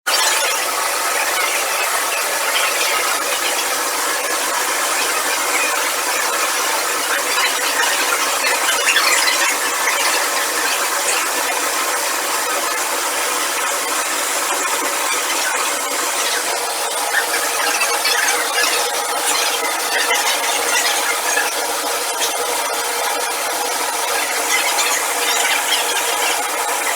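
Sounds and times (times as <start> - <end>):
factory machinery rattling and squealing: 0.1 - 26.9.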